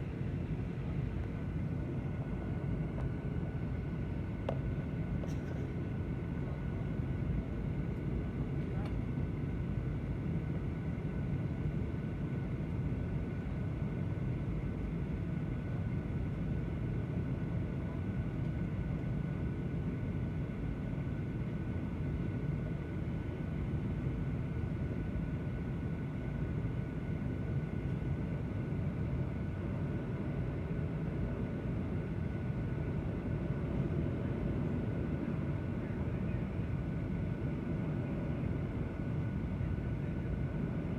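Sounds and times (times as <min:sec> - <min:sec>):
aircraft engine rumble: 0:00.0 - 0:40.9.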